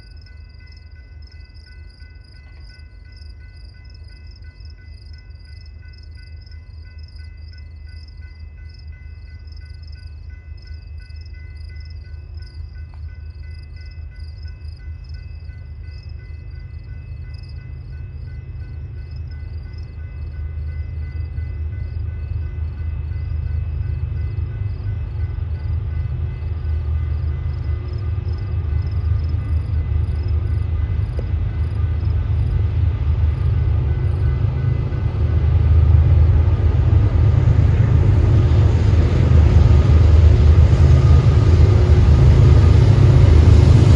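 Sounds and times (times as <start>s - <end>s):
insects chirping: 0.0s - 43.5s
diesel locomotives rumbling: 0.0s - 43.9s.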